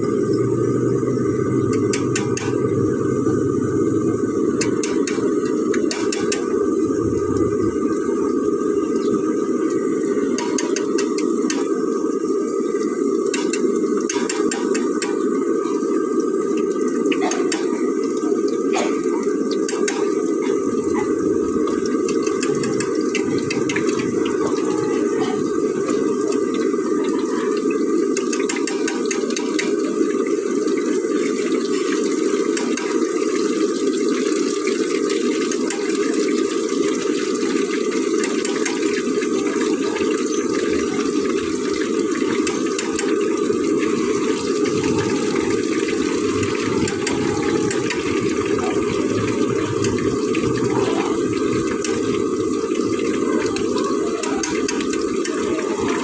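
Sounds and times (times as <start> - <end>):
frying crackles: 0.0 - 56.0
oil bubbling and hissing: 0.0 - 56.0.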